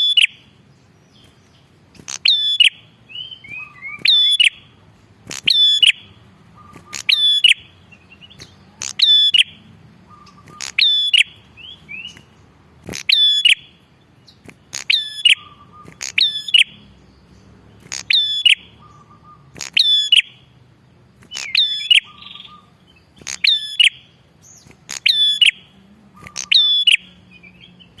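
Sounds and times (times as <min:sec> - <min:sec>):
bird chattering song: 0:00.0 - 0:28.0.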